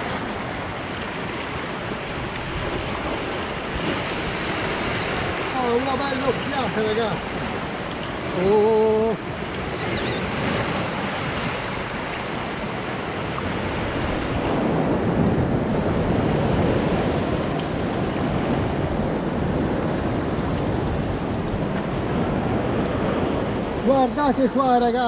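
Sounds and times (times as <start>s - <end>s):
wind on microphone: 0.0s - 24.4s
surf breaking over rocks: 0.0s - 25.0s.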